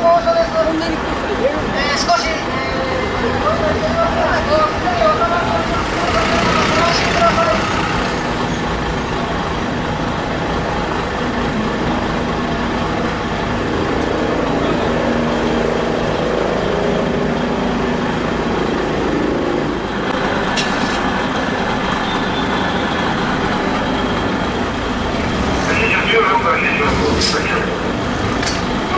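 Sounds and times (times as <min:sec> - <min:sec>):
truck engine running: 0:00.0 - 0:28.9.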